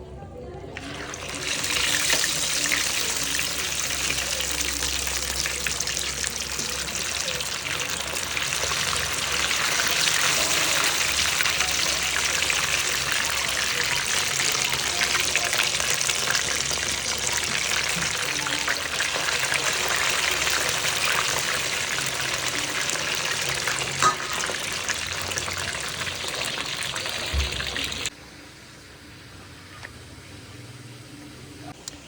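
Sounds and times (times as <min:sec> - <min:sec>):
food frying in hot oil: 0:00.8 - 0:30.6.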